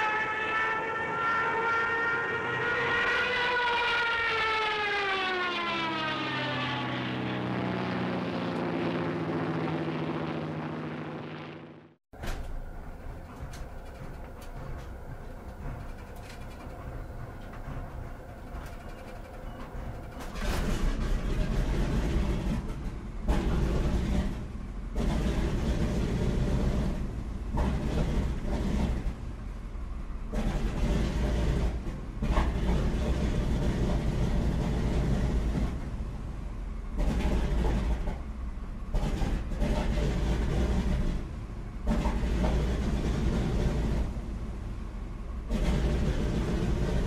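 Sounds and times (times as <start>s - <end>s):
rumbling vehicle sounds: 0.0s - 47.0s.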